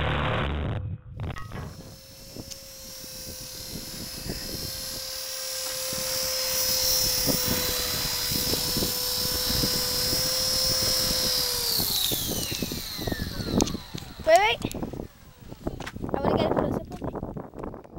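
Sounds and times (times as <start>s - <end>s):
wind buffeting microphone: 0.8s - 17.9s
rc helicopter rotor whine: 1.4s - 17.9s.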